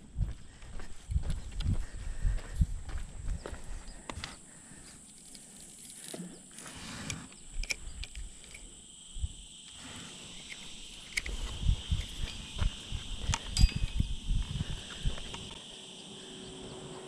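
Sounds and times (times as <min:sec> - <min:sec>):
lower insect drone: 0:00.0 - 0:17.0
high-pitched insect drone: 0:00.8 - 0:17.0.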